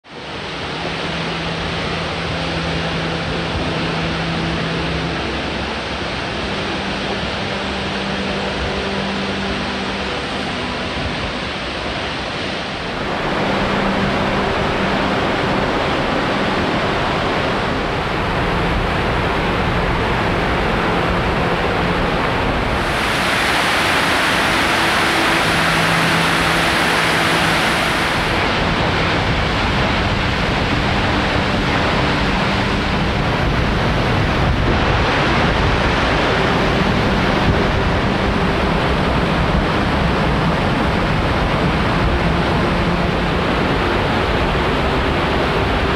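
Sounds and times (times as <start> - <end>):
creek rapids: 0.1 - 45.9
waterfall rushing: 0.1 - 45.9.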